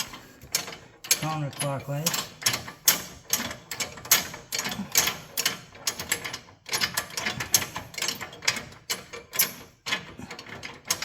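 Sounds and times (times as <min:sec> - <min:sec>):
metal adjuster clicking and rasping: 0:00.0 - 0:11.0.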